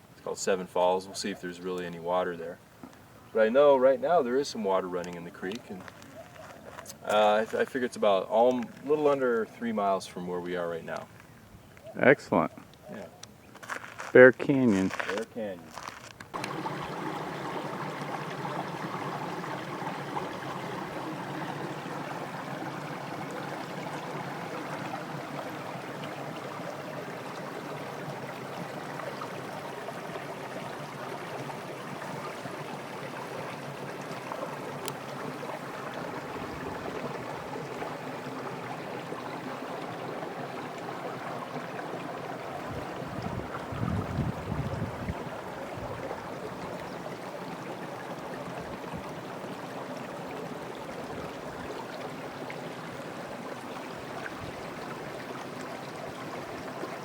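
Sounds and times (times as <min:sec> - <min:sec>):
creek water running over rocks: 0:00.0 - 0:57.0.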